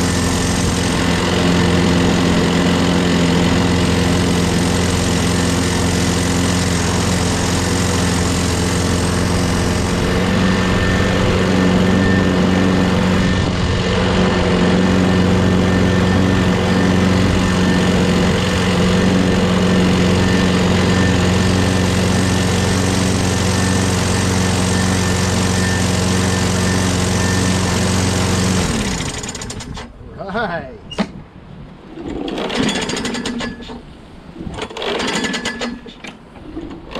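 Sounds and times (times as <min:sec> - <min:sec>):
lawn mower engine running: 0:00.0 - 0:30.0, 0:31.8 - 0:36.9.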